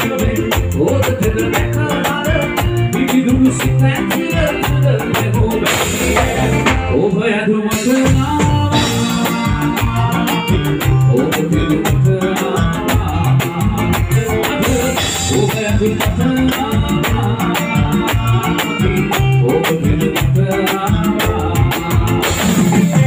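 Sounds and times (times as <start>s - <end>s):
drums and cymbals beat: 0.0s - 7.1s, 7.7s - 23.0s
live band playing: 0.0s - 23.0s.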